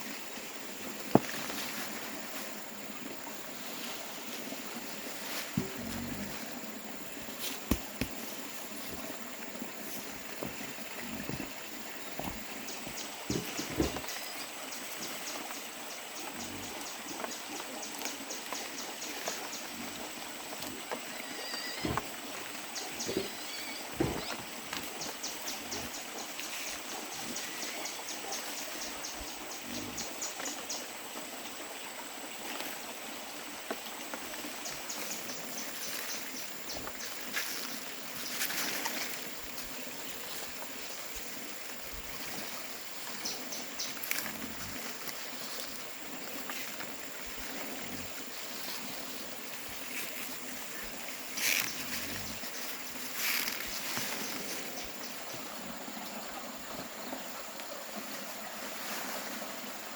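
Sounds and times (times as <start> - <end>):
high insect drone: 0.0 - 59.9
running water rushing: 0.0 - 59.9.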